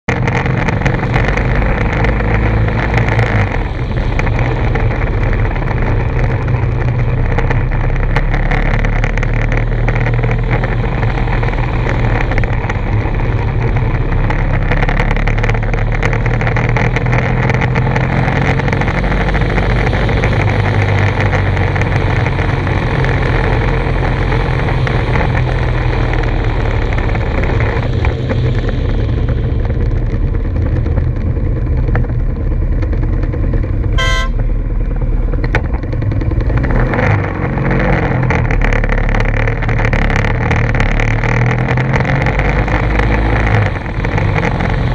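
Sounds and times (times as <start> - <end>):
motorcycle engine running: 0.0 - 44.9
wind noise on microphone: 0.1 - 44.9.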